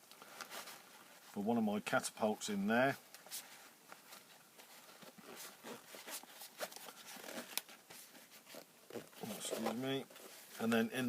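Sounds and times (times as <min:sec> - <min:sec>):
fabric pouch rustling: 0:00.2 - 0:01.5, 0:02.8 - 0:11.0.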